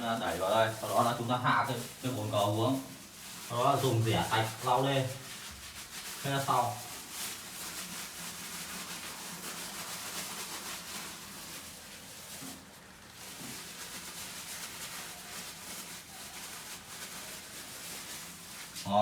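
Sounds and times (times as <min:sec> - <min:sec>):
mortar scraping and rubbing: 0:00.0 - 0:18.9.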